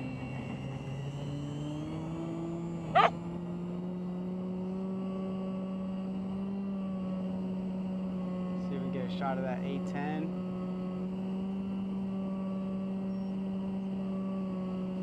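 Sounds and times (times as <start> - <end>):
electric motor and propeller humming: 0.0 - 15.0.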